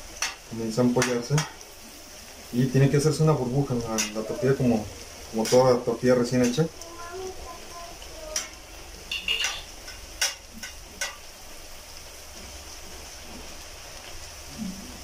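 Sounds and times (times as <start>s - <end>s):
tortilla sizzling in hot fat: 0.0s - 15.0s.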